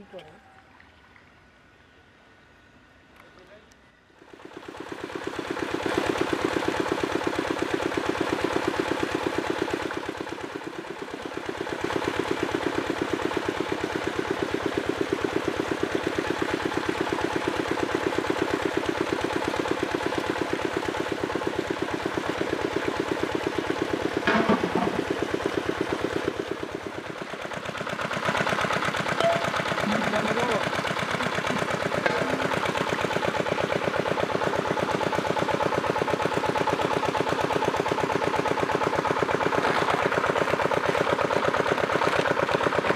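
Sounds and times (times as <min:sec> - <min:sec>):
water pump engine chugging: 0:04.1 - 0:42.9.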